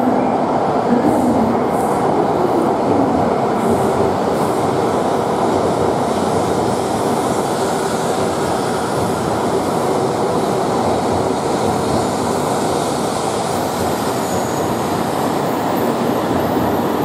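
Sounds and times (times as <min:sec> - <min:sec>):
train rail and wheel noise: 0:00.0 - 0:17.0.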